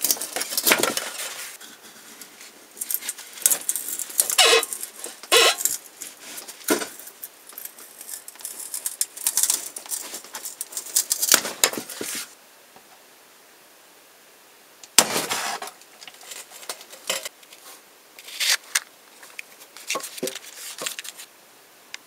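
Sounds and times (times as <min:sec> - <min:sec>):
scraping and rustling wood: 0:00.0 - 0:12.4, 0:15.0 - 0:21.3.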